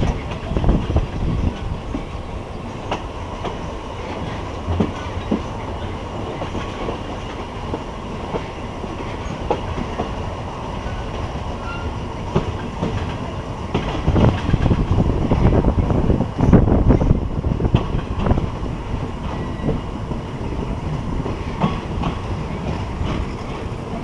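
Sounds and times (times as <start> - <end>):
wheels clacking over rail joints: 0.0 - 15.6, 17.7 - 24.0
train rumbling on track: 0.0 - 24.0.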